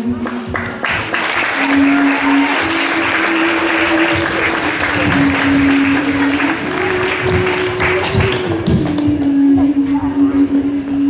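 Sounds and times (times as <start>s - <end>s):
music with long held notes: 0.0s - 11.0s
audience applauding: 0.2s - 9.2s.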